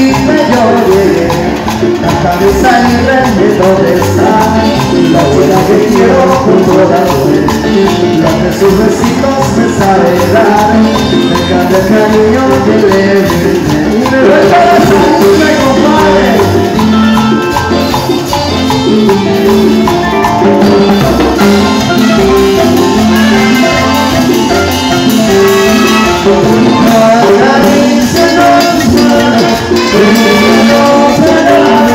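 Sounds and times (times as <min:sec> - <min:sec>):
latin dance band playing: 0:00.0 - 0:31.9.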